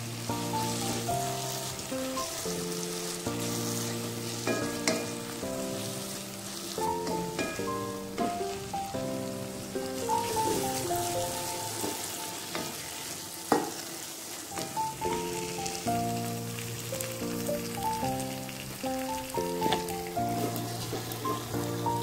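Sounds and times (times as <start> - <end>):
background music: 0.0 - 22.0
food sizzling in a pot: 0.0 - 22.0.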